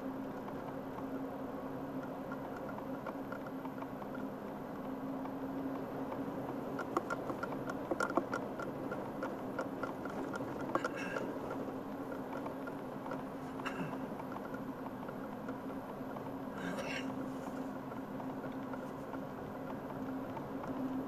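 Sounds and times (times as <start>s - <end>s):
car engine and road noise: 0.0s - 21.0s
small clicks and rattles: 0.1s - 21.0s.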